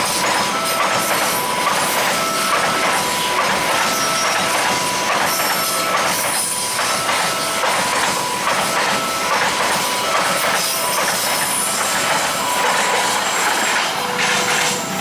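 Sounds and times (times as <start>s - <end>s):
train wheels clattering on rails: 0.0s - 15.0s
two-tone crossing alarm: 0.0s - 15.0s.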